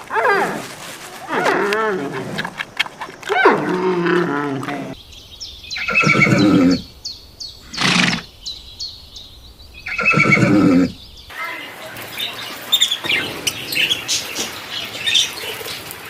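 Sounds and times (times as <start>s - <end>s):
farm animal calls: 0.0s - 15.3s.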